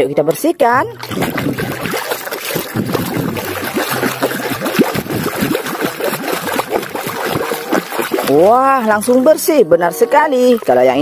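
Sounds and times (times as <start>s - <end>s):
water splashing and trickling: 0.8s - 11.0s.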